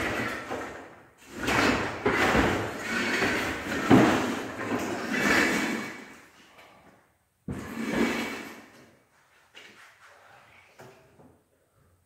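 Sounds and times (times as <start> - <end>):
heavy objects scraping on floor: 0.0 - 6.5, 7.5 - 10.8.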